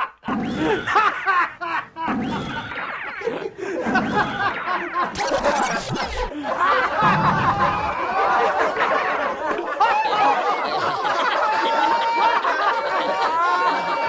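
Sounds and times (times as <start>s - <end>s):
people laughing and giggling: 0.0s - 14.0s.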